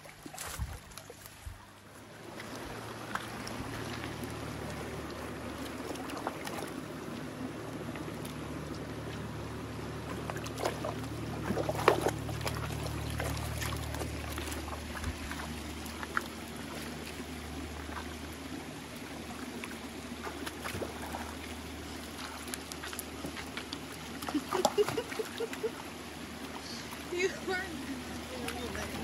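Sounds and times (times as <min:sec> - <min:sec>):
creek water trickling: 0:00.0 - 0:29.0
dogs splashing through water: 0:00.0 - 0:29.0.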